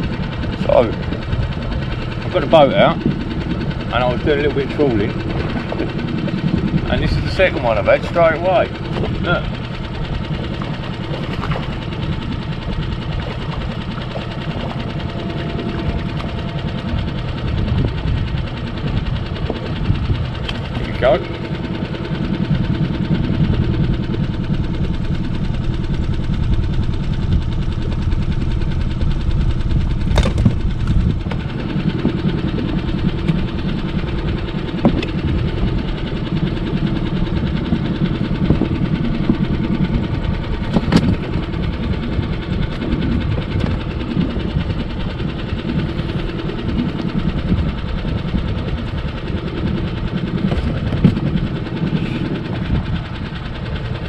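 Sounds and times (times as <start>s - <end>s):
small outboard motor running: 0.0s - 54.0s.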